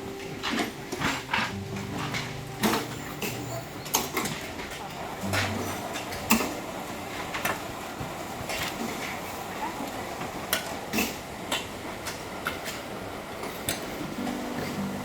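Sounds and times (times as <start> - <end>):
steady noisy background: 0.0 - 15.0.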